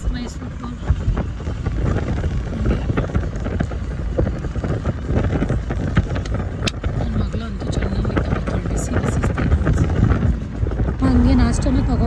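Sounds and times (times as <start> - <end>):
road and engine rumble: 0.0 - 12.0
wind buffeting microphone: 0.0 - 12.0.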